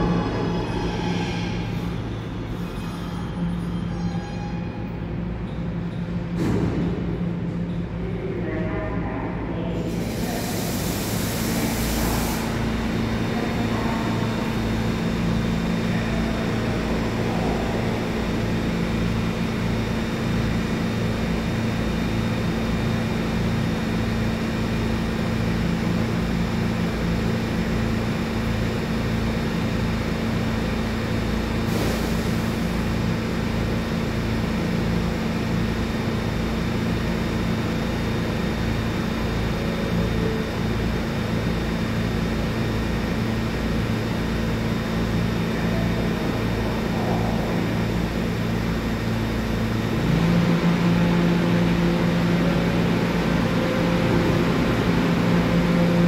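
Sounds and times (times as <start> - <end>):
subway train equipment hum: 0.0 - 56.0.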